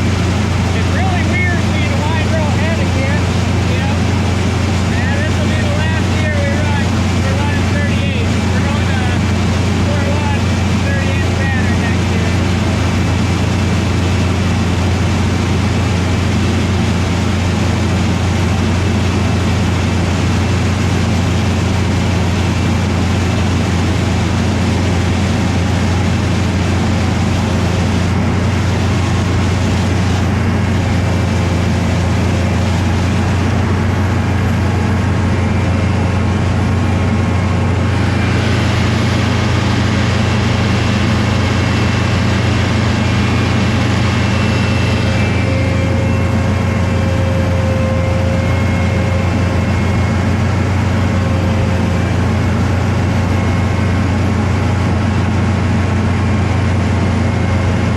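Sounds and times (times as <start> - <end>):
dense mechanical noise: 0.0 - 57.9
farm machine engine drone: 0.0 - 57.9.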